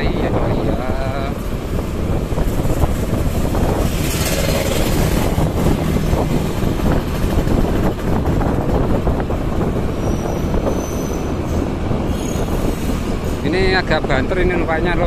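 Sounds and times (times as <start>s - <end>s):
vehicle engine: 0.0s - 14.8s
road noise: 0.0s - 15.0s
wind rumbling on microphone: 0.0s - 15.0s.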